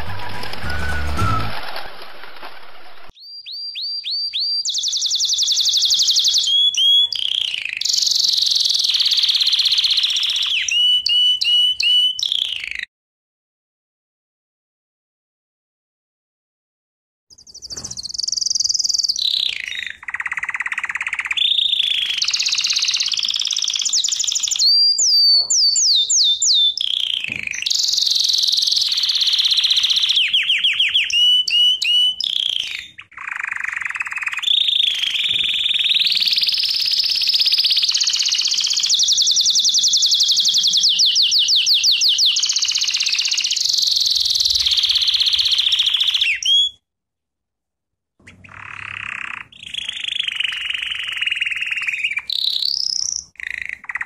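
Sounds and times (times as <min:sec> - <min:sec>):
canary singing trills: 0:03.2 - 0:12.9, 0:17.3 - 0:46.8, 0:48.3 - 0:54.0.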